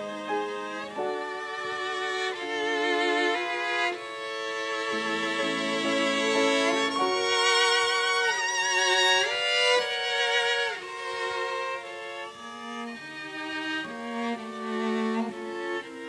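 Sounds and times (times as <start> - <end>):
string trio playing slow melody: 0.0 - 16.0.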